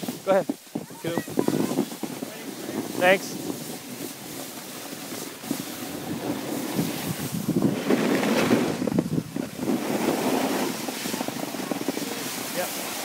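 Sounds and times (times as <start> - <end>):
skis scraping over snow: 0.0 - 13.0
wind buffeting microphone: 0.0 - 13.0.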